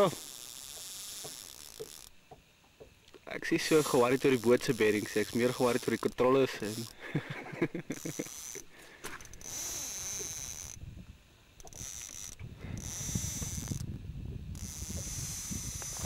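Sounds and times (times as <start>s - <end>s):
fishing reel drag buzzing: 0.0s - 16.0s.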